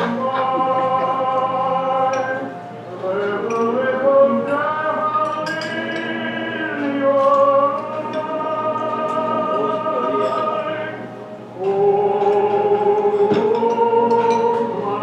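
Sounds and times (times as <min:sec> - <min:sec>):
musical accompaniment: 0:00.0 - 0:15.0
operatic singing over loudspeakers: 0:00.0 - 0:15.0.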